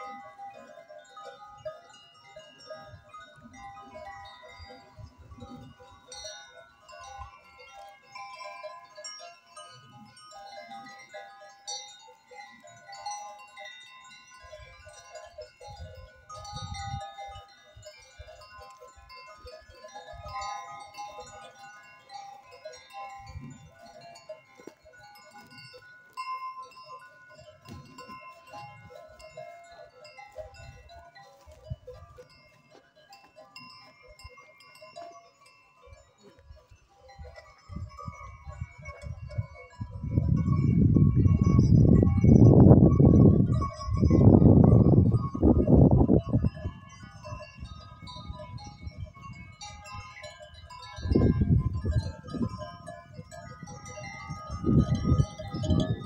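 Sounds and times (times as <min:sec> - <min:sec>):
animal bells clinking: 0:00.0 - 0:56.0.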